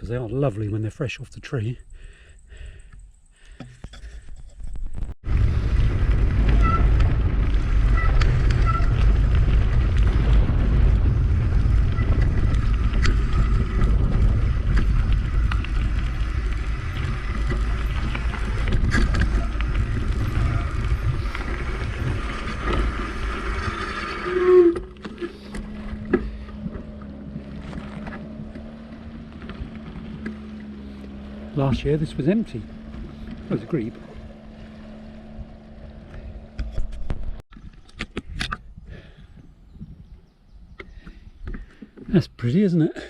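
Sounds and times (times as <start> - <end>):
wind buffeting microphone: 4.7 - 23.8, 25.6 - 41.7.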